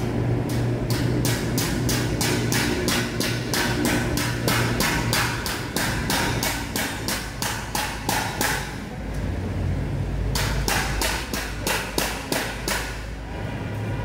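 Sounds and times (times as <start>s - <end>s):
hammer striking metal: 0.0s - 8.8s, 10.3s - 13.1s.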